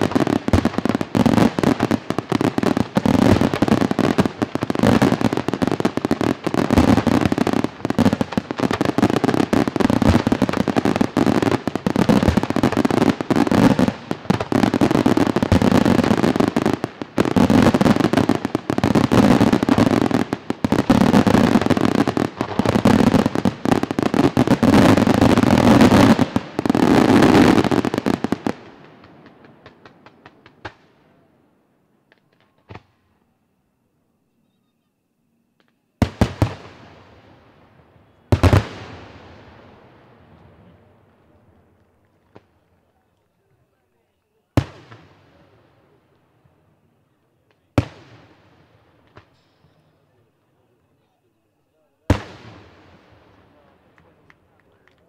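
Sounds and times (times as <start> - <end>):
faint firework crackles: 0.0 - 55.0.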